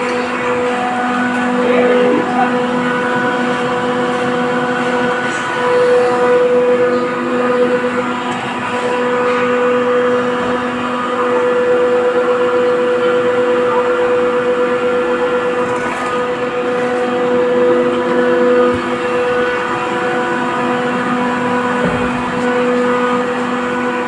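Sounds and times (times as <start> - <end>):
air compressor running: 0.0 - 24.0.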